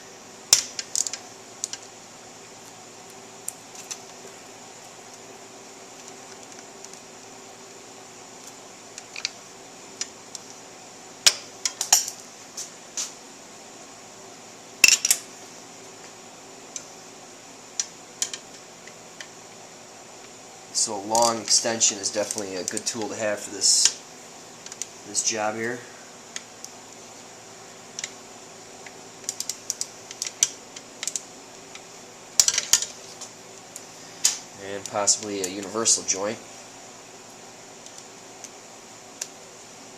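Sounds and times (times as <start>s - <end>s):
steady background hum: 0.0s - 39.9s.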